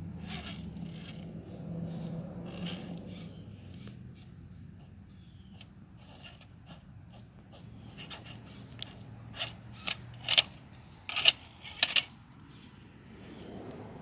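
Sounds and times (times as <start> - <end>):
motor and gears humming: 0.0 - 14.0.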